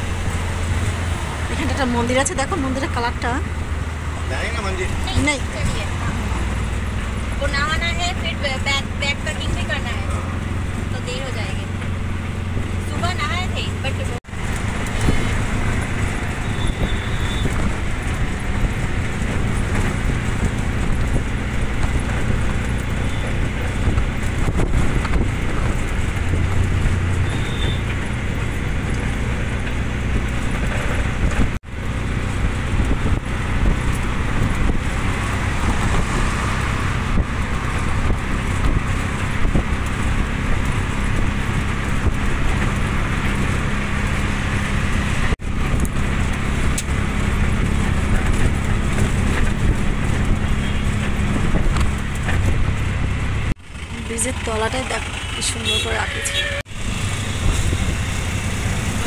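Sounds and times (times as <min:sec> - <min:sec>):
auto-rickshaw engine running: 0:00.0 - 0:59.0
road and wind noise: 0:00.0 - 0:59.0.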